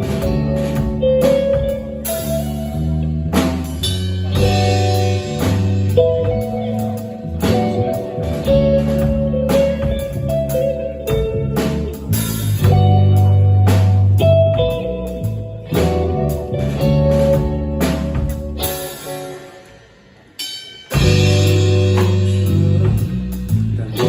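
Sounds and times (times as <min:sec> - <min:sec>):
electric guitars and bass: 0:00.0 - 0:20.3, 0:20.9 - 0:24.0
drum kit beat: 0:00.0 - 0:24.0.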